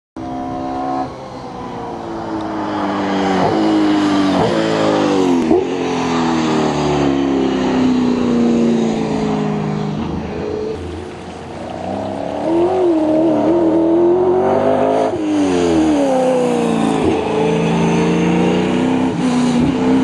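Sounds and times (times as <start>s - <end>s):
racing engine upshifting: 0.2s - 20.0s.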